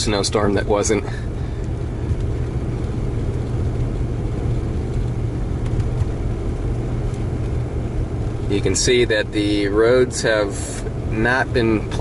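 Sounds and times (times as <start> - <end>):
car engine rumble: 0.0 - 12.0
tyres on snowy road: 0.0 - 12.0.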